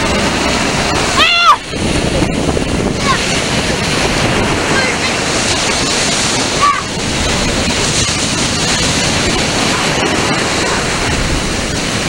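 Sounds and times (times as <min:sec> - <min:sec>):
surf breaking on sand: 0:00.0 - 0:12.0.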